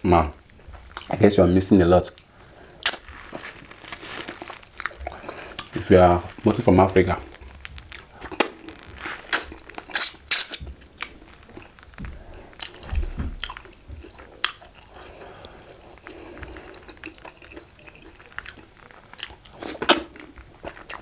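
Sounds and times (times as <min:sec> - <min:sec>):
soft chewing: 0:00.5 - 0:01.3, 0:02.0 - 0:21.0
crunching while eating: 0:00.9 - 0:01.3, 0:02.0 - 0:21.0.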